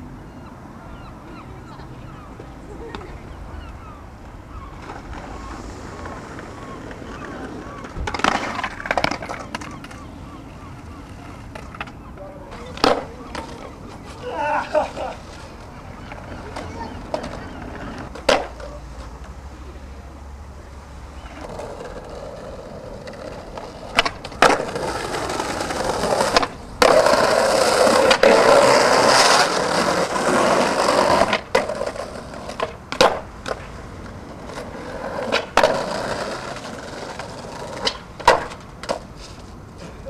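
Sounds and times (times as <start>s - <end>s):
skateboard wheels rolling on concrete: 0.0s - 40.0s
skateboard clacks: 4.2s - 10.2s, 10.8s - 14.2s, 14.8s - 19.4s, 21.2s - 40.0s.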